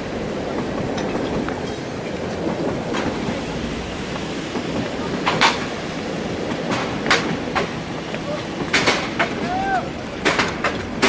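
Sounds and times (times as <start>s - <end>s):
heavy vehicle rumbling: 0.0s - 11.0s.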